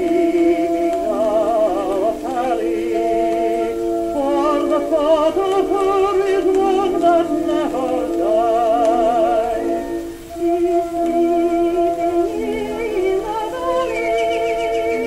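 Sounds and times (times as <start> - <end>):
voice singing with vibrato: 0.0 - 15.0
orchestra accompaniment: 0.7 - 15.0.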